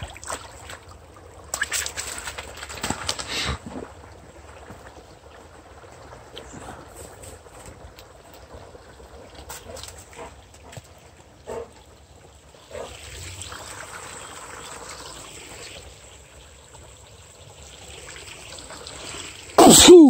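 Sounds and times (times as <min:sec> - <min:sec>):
brook trickling over stones: 0:00.0 - 0:19.6.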